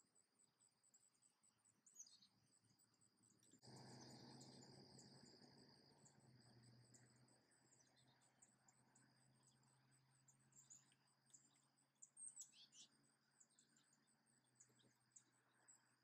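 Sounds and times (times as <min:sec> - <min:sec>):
cricket-like insect trill: 0:00.0 - 0:16.0
low steady hum: 0:00.9 - 0:16.0.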